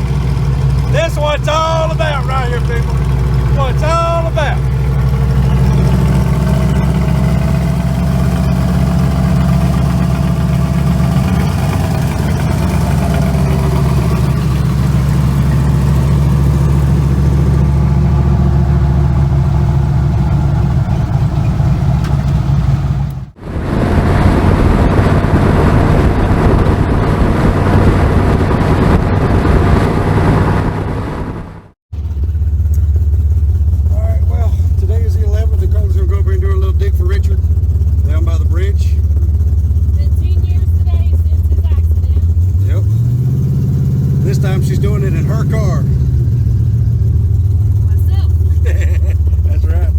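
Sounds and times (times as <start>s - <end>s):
car engine idling: 0.0s - 29.0s, 30.2s - 49.9s.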